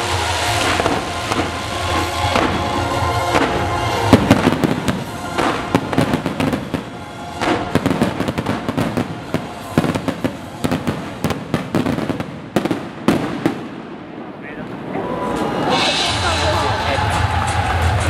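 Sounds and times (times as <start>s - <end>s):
music: 0.0s - 12.8s, 15.1s - 18.0s
fireworks bangs and crackling: 0.0s - 18.0s.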